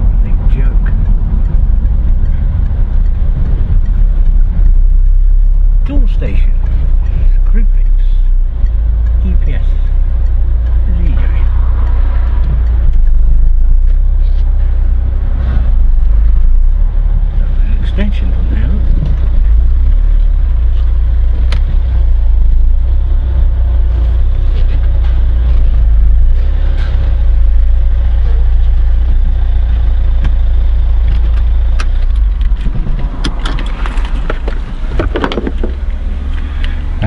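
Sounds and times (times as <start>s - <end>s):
car driving slowly: 0.0s - 37.0s.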